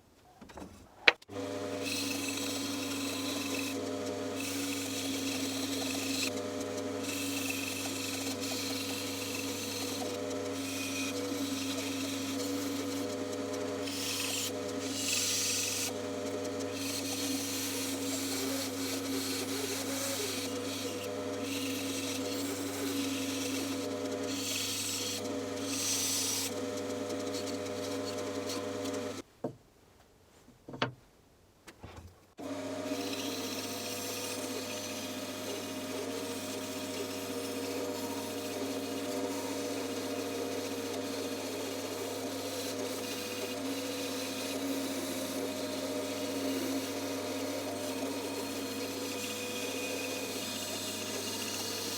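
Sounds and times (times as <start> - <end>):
bandsaw motor hum: 1.2 - 29.2, 32.4 - 51.9
saw blade cutting wood: 1.2 - 29.2, 32.4 - 51.9.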